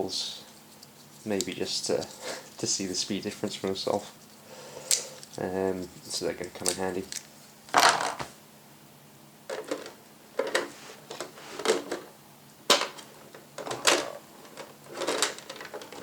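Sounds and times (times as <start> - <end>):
items rustling and clattering: 0.4 - 8.4, 9.5 - 16.0.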